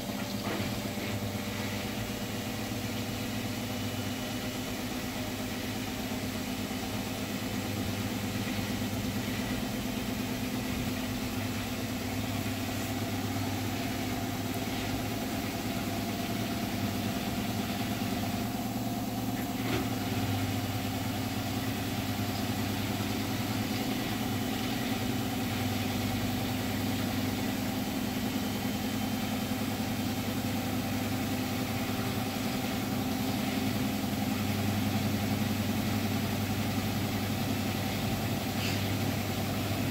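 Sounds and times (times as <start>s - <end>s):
washing machine drum spinning: 0.0s - 39.9s.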